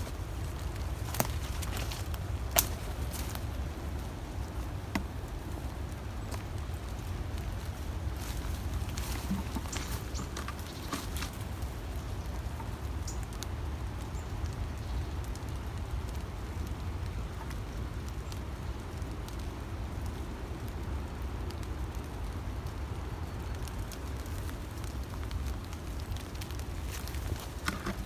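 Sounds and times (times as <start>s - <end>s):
faint crackling patter: 0.0s - 28.0s.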